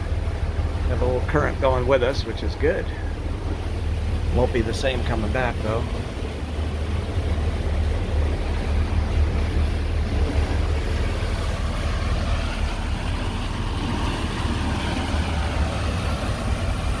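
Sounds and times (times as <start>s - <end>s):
boat engines droning: 0.0s - 17.0s
water rushing past boat: 0.0s - 17.0s.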